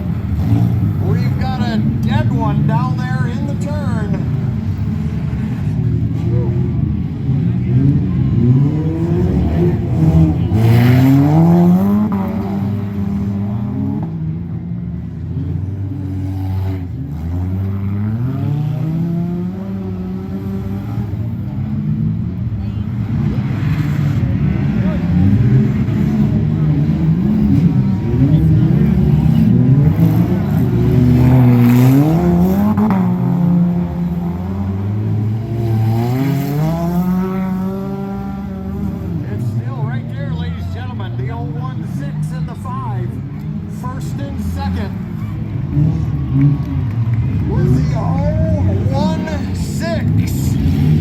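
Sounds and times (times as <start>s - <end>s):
race vehicle engines revving: 0.0s - 51.0s.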